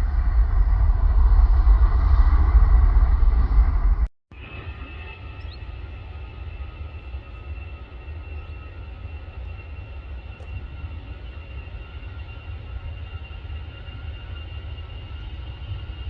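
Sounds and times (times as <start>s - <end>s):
distant jet engines rumbling: 0.0s - 16.0s
high jet engine whine: 0.0s - 16.0s.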